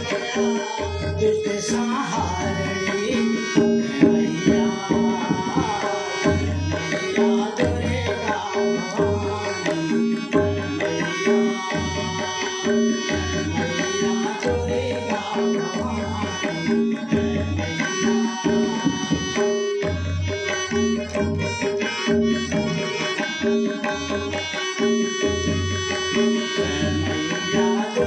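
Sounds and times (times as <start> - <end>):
harmonium chords: 0.0 - 28.0
tabla playing: 0.0 - 28.0.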